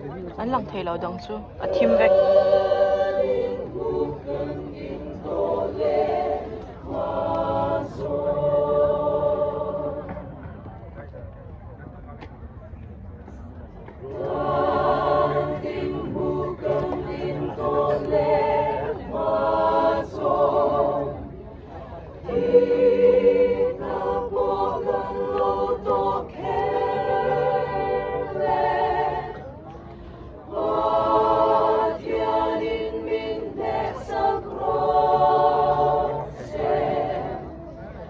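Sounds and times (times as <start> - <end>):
choir singing unaccompanied: 1.5 - 10.5, 14.0 - 38.0.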